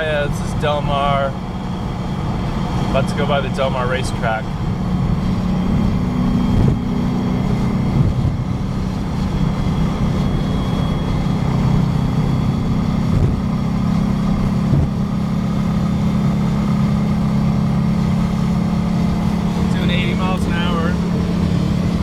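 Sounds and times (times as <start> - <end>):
car engine cruising from inside: 0.0 - 22.0.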